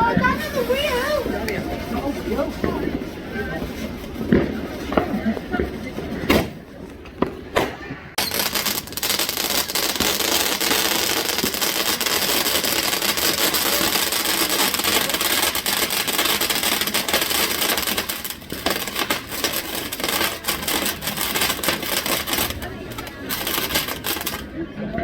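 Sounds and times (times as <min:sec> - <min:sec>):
firework crackling and hissing: 0:00.0 - 0:24.8.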